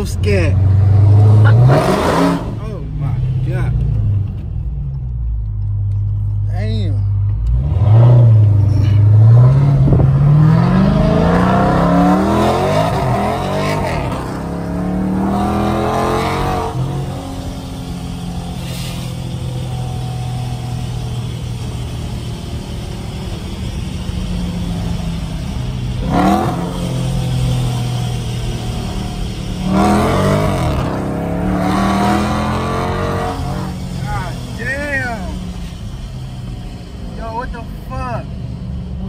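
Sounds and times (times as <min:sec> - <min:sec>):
car engine revving: 0:00.0 - 0:06.4, 0:07.0 - 0:39.0.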